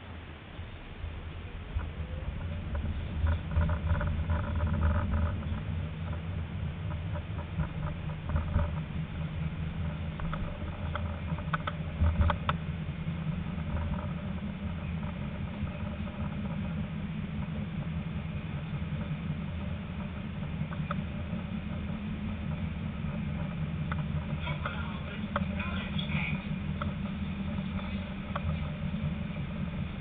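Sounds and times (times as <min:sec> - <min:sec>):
tram rumbling on tracks: 0:00.0 - 0:30.0.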